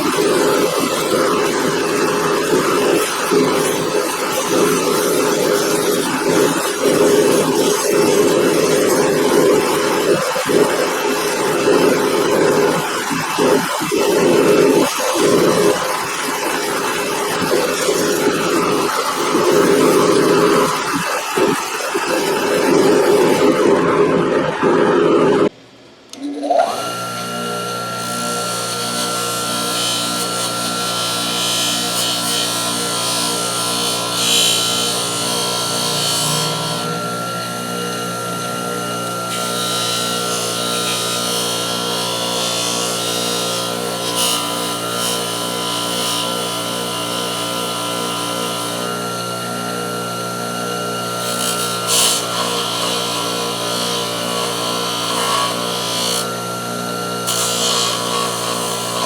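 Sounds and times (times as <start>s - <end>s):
bench motor humming: 0.0s - 59.0s.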